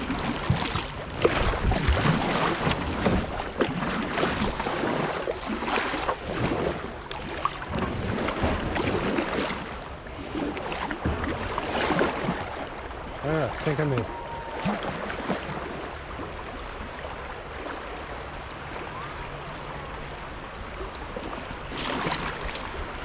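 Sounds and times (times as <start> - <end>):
water rushing and splashing: 0.0 - 23.0.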